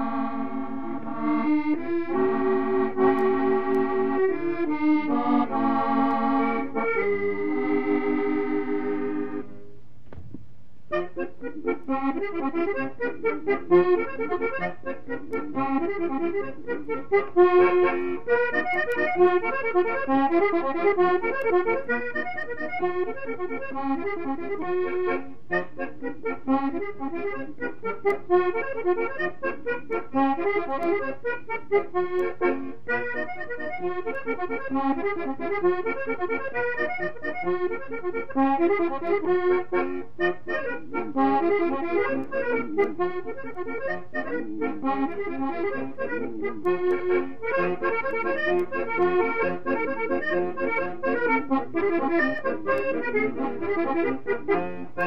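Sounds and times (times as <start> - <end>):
accordion playing brisk tune: 0.0 - 9.7, 10.9 - 55.0.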